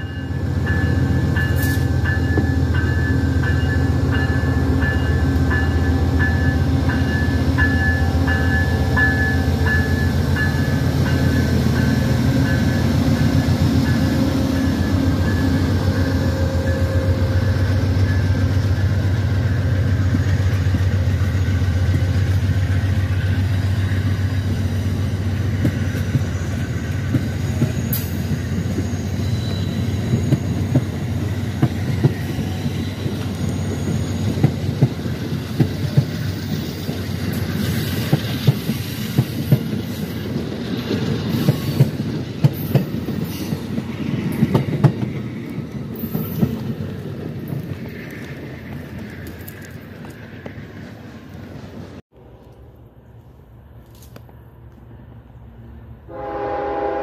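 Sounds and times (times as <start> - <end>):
train wheels clickety-clack: 0.0 - 52.0
diesel locomotive drone: 0.0 - 57.0.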